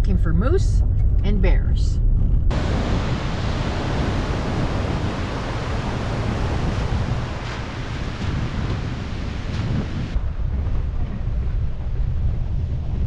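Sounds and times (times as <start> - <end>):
wind buffeting the microphone: 0.0 - 13.0
truck rumbling on dirt road: 2.0 - 13.0.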